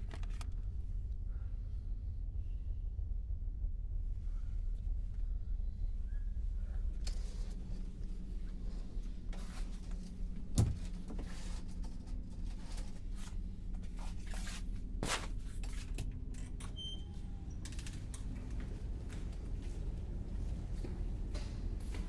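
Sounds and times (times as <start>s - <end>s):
ferry engines droning: 0.0s - 22.0s.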